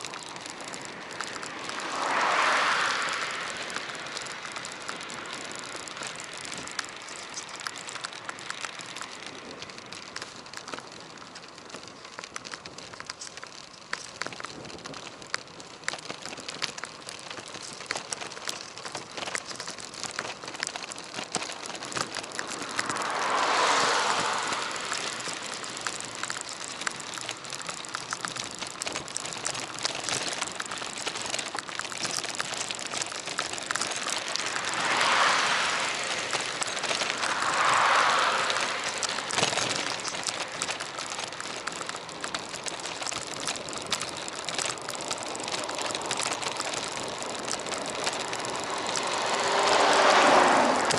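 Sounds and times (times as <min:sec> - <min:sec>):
bicycle clicks and rattles: 0:00.0 - 0:50.9
wind and tyres rushing: 0:00.0 - 0:50.9.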